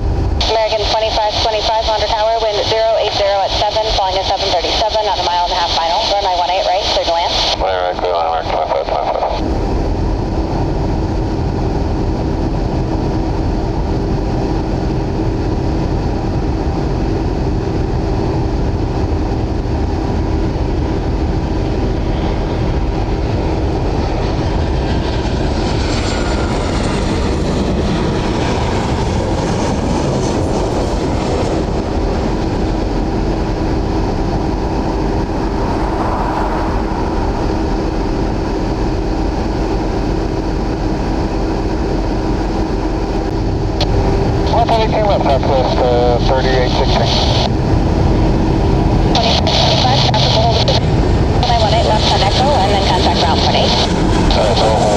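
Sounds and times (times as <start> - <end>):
jet airliner engine whine: 0.0 - 54.9
steady background rumble: 0.0 - 54.9.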